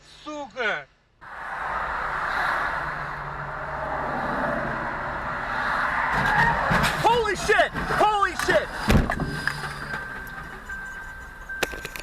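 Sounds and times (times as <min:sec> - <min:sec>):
car road noise: 0:01.2 - 0:12.0.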